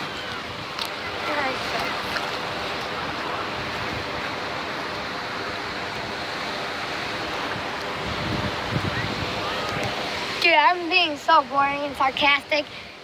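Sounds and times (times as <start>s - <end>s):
ocean surf rushing: 0.0s - 13.0s.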